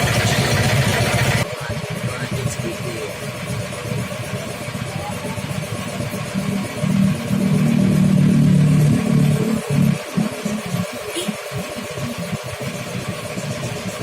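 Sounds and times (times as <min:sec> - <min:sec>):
scooter engine revving: 0:00.0 - 0:14.0.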